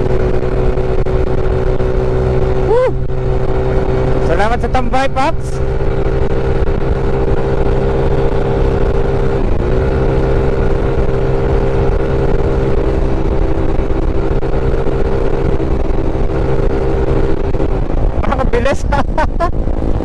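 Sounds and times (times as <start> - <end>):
motor scooter engine droning: 0.0 - 20.0
wind and road noise: 0.0 - 20.0.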